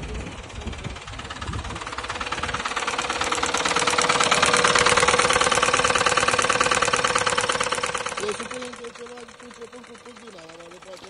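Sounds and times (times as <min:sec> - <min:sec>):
engine clattering with whine: 0:00.0 - 0:11.0.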